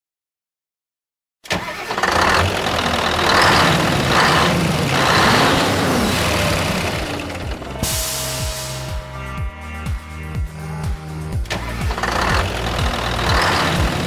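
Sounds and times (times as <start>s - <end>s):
truck engine starting and running: 1.4s - 14.0s.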